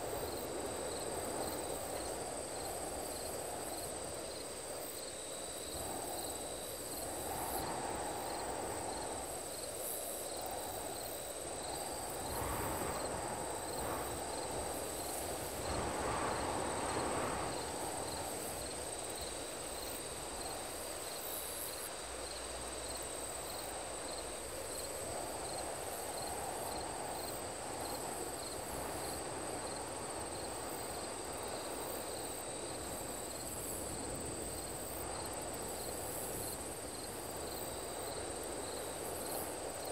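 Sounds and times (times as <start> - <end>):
high cricket-like chirring: 0.0 - 39.9.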